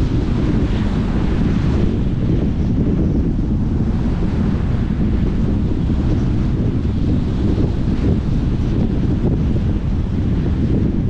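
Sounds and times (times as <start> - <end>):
ocean surf breaking on beach: 0.0 - 11.0
wind buffeting microphone: 0.0 - 11.0.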